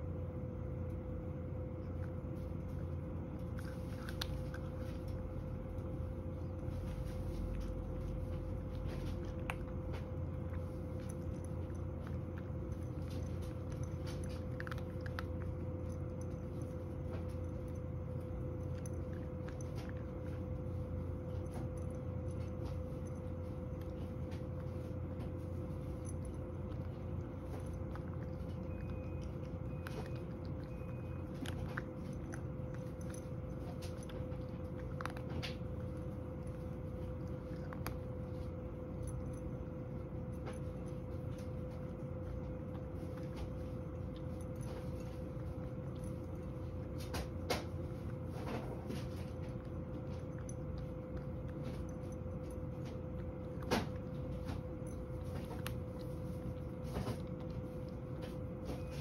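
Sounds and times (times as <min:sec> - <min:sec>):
cat crunching dry kibble: 0:00.0 - 0:59.0
steady low hum: 0:00.0 - 0:59.0.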